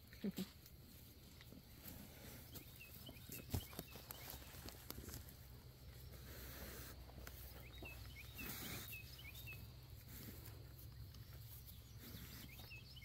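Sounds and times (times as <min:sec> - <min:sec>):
small bird chirping: 0:02.2 - 0:13.0.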